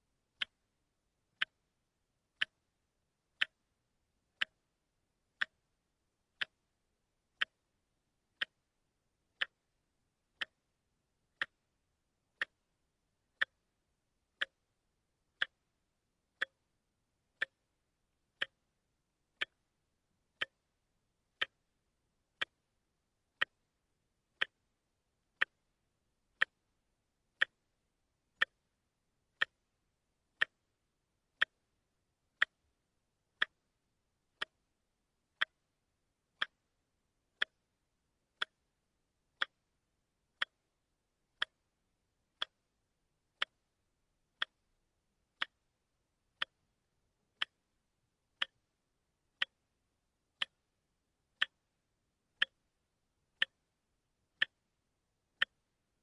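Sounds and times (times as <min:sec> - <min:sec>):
watch ticking: 0:00.3 - 0:01.7, 0:02.3 - 0:10.7, 0:11.3 - 0:38.8, 0:39.4 - 0:42.7, 0:43.3 - 0:50.8, 0:51.4 - 0:54.7, 0:55.4 - 0:56.0.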